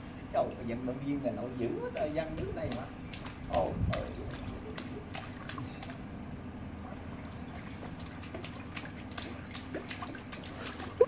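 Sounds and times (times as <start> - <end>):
low background hum: 0.0 - 11.0
pool water lapping and splashing: 0.7 - 11.0.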